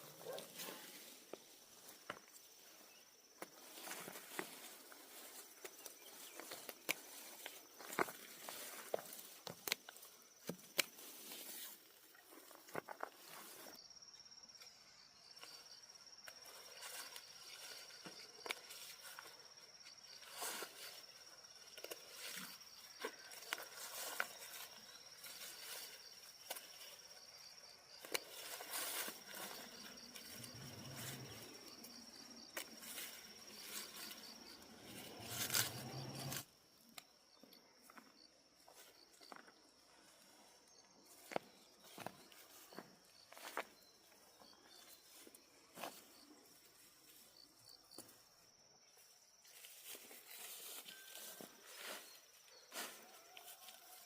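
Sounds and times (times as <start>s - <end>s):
high-pitched insect chirp: 0.9s - 54.0s.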